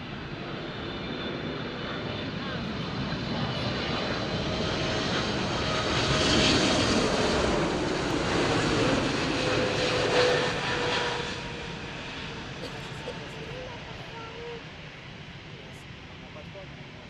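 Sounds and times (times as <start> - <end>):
faint engine whine: 0.0 - 17.0
rushing jet engine noise: 0.0 - 17.0.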